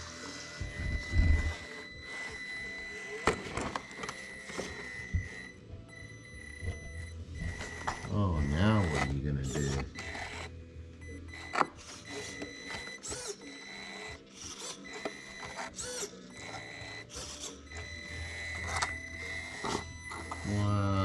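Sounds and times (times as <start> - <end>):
small electric motor whining: 0.0 - 21.0.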